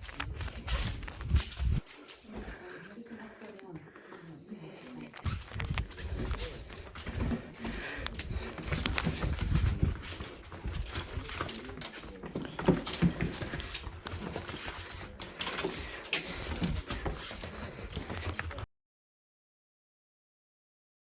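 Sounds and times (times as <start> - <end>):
cat paws tapping and scrabbling: 0.0 - 18.7.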